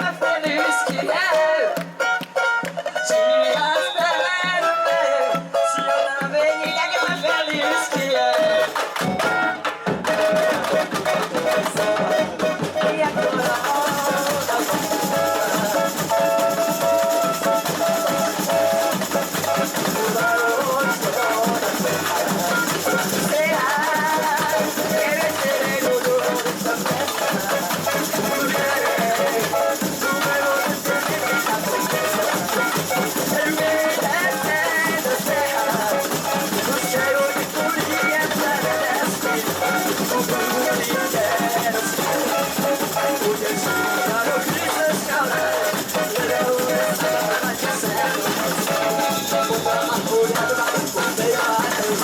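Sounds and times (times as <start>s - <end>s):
samba drums and shakers: 0.0s - 52.0s.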